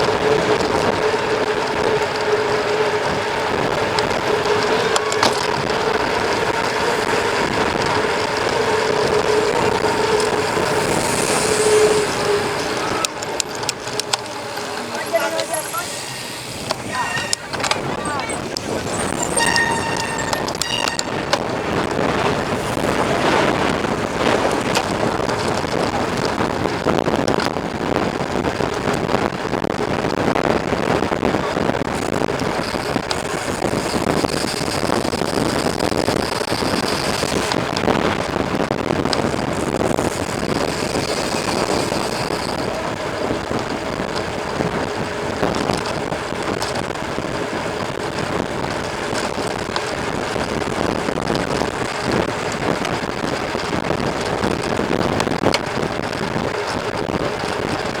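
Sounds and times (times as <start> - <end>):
bike rolling over trail: 0.0 - 58.0
wind on microphone: 0.0 - 58.0.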